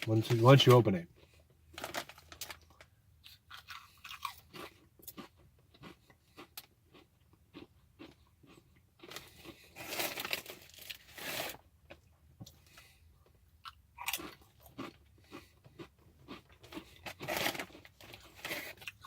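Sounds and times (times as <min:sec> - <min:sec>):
potato chips being chewed: 0:01.2 - 0:19.0.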